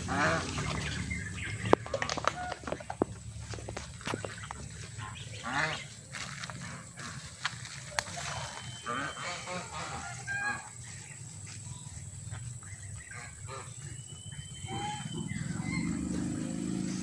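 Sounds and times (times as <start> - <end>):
geese honking: 0.0 - 17.0
steady low rumble: 0.0 - 17.0.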